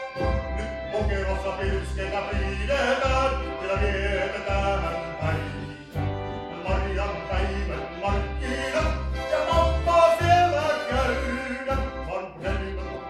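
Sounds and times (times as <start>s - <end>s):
harmonica: 0.0s - 13.0s
plucked double bass: 0.0s - 13.0s
violin: 0.0s - 13.0s.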